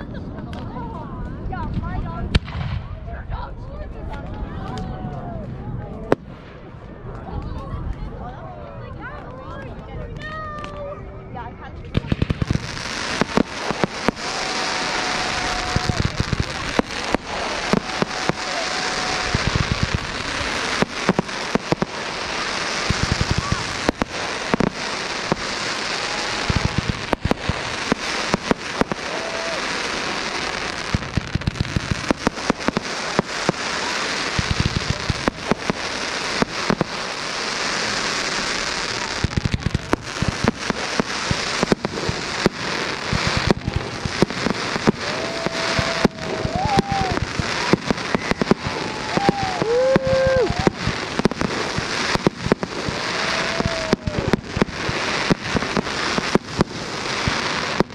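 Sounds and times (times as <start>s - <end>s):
fireworks pops and bangs: 0.0s - 8.3s, 9.0s - 10.9s, 11.9s - 57.9s
fireworks crackling: 0.0s - 57.9s.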